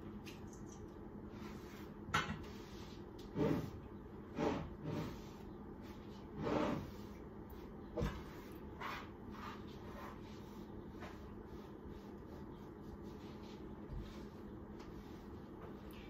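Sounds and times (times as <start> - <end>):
cloth wiping counter: 1.3 - 16.0.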